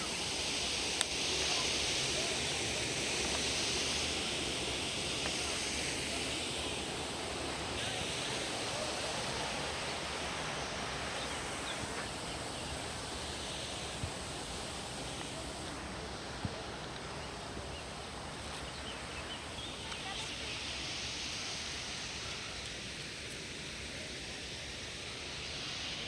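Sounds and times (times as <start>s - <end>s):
mountain stream rushing: 0.0s - 26.0s.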